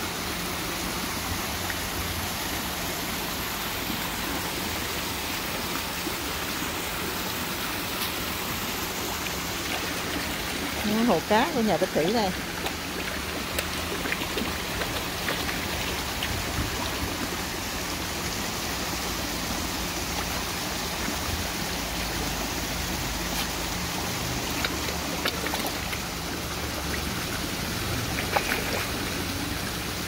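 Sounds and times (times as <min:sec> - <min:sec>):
water splashing into pond: 0:00.0 - 0:30.0.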